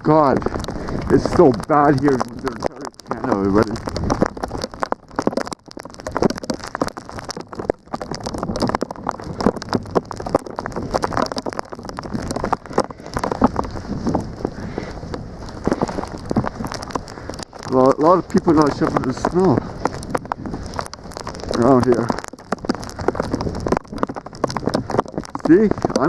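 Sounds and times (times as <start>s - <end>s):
snowstorm wind on microphone: 0.0s - 26.0s.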